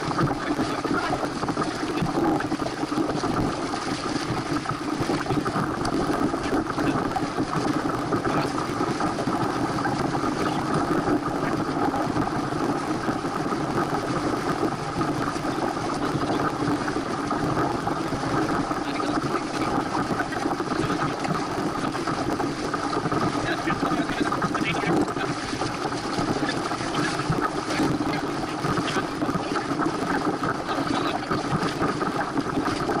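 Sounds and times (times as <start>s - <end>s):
water rushing: 0.0s - 33.0s.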